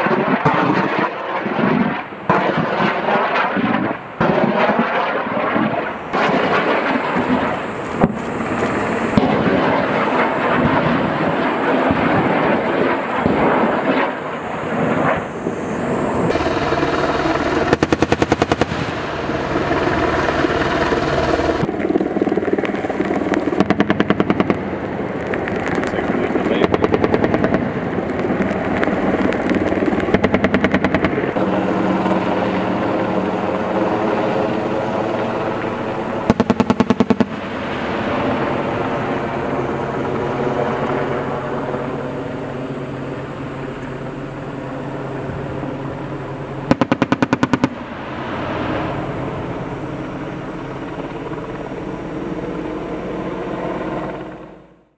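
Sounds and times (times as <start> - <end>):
helicopter rotors and turbines drone: 0.0 - 54.9.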